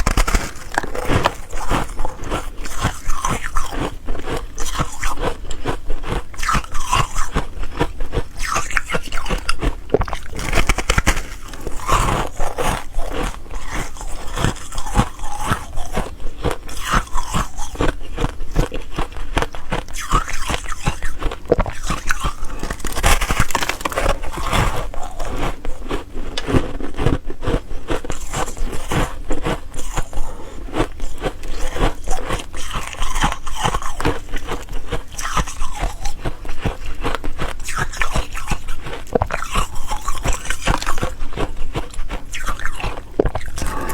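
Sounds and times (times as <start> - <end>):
ice cubes being chewed: 0.0 - 43.9.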